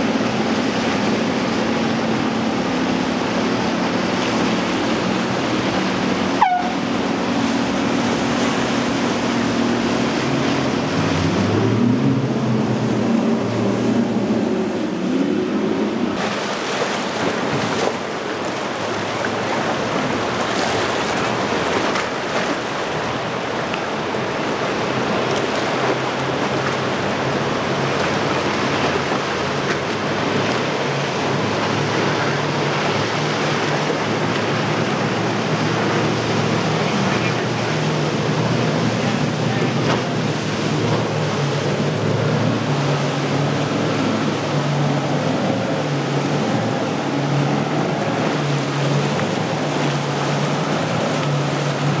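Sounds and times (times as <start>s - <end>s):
outboard motors running: 0.0s - 52.0s
rush of spray and wake: 0.0s - 52.0s
waves around hull: 0.0s - 52.0s.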